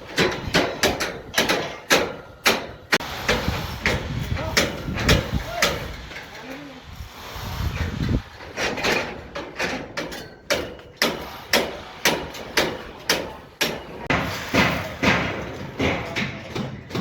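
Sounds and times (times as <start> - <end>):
hammer blows: 0.1 - 6.3, 7.1 - 17.0.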